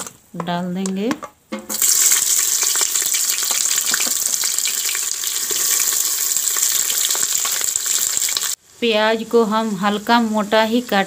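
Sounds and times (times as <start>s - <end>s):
onions sizzling in hot oil: 1.7s - 11.0s.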